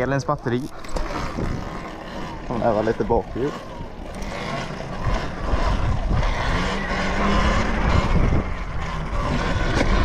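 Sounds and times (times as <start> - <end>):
faint electric motor whine: 0.0 - 10.0
wind rushing over microphone: 1.0 - 10.0.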